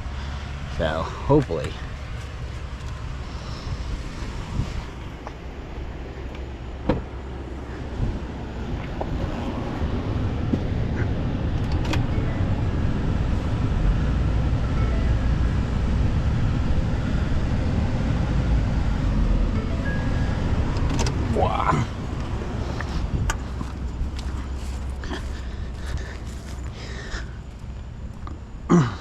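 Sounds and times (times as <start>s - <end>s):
motor vehicle rumble: 0.0s - 29.0s.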